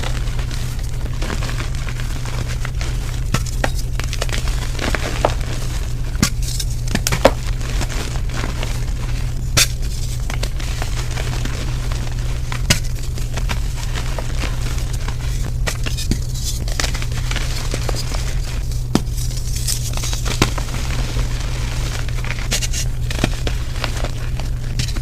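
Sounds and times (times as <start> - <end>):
chalk being crushed: 0.0 - 25.0
steady low hum: 0.0 - 25.0.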